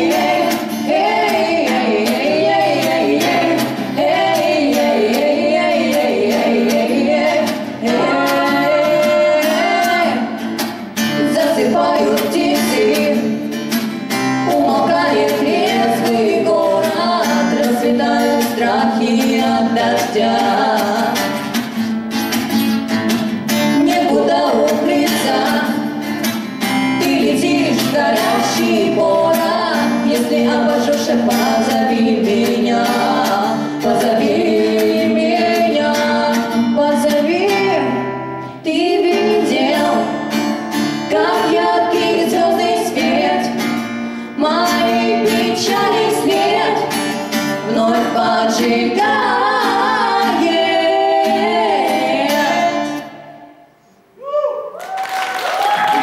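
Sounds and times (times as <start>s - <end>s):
women singing: 0.0s - 21.6s, 23.5s - 53.6s
strummed acoustic guitar: 0.0s - 53.4s.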